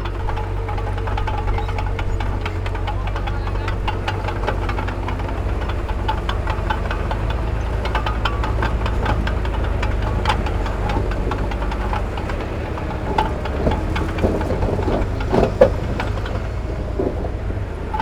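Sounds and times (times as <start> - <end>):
diesel machinery rumbling: 0.0 - 18.0
metallic clanks and knocks: 0.0 - 18.0.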